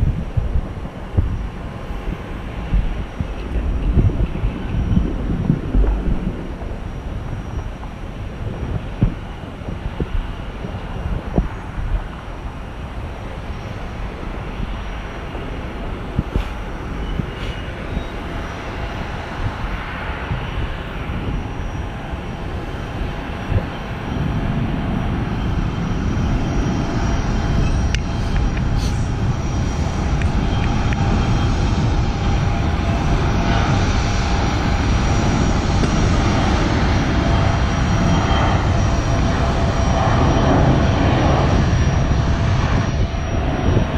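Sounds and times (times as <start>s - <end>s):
distant jet engines rumbling: 0.0s - 43.9s.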